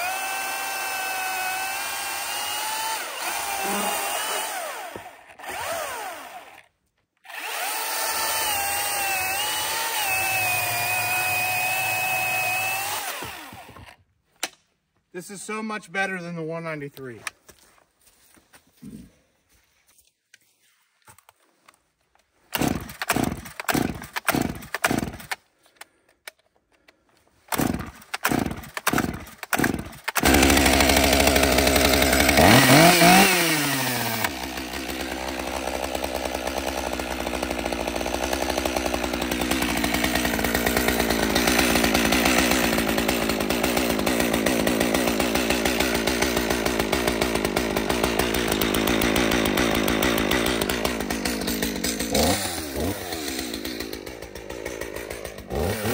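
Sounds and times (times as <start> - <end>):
chainsaw engine revving and idling: 0.0 - 14.0, 22.5 - 25.4, 27.5 - 55.9.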